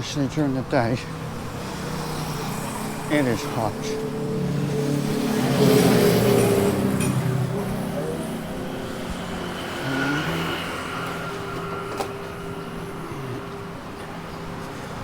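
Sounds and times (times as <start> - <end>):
vehicle engine passing: 0.2 - 14.9.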